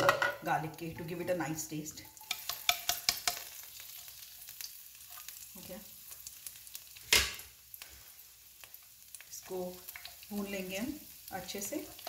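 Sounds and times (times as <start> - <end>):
garlic sizzling in oil: 0.4 - 12.0.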